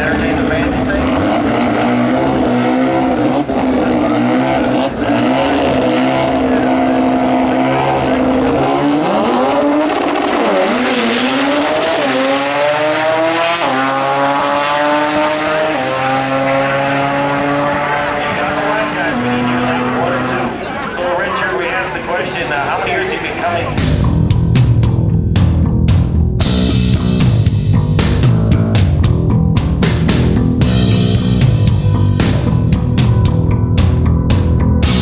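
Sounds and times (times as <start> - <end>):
drag racing car engine revving: 0.0 - 35.0.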